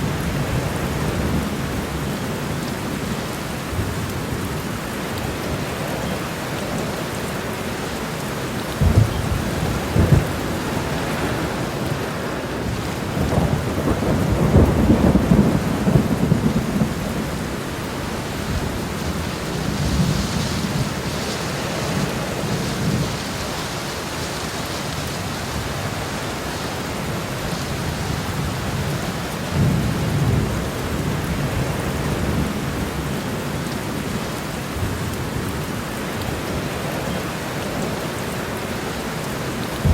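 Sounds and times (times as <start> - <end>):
heavy rain on a road: 0.0 - 39.9.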